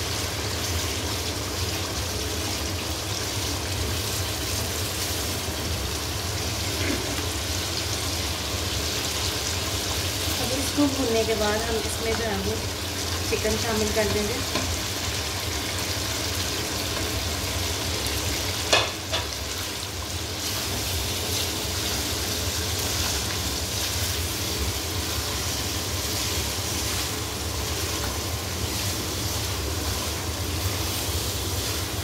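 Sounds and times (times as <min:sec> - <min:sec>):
food sizzling in oil: 0:00.0 - 0:32.0.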